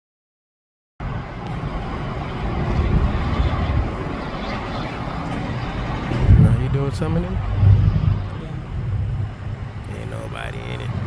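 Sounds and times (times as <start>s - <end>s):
road traffic rumble: 1.0s - 11.0s.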